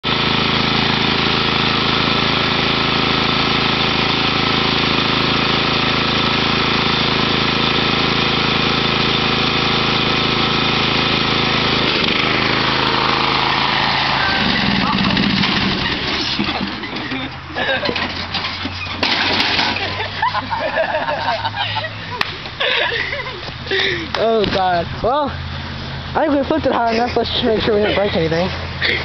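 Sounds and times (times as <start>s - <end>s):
lawn mower engine running: 0.0s - 29.0s.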